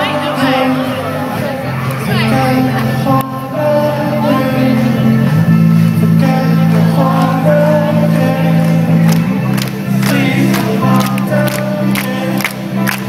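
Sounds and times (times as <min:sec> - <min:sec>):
live rock band: 0:00.0 - 0:13.0
low bass notes: 0:00.0 - 0:13.0.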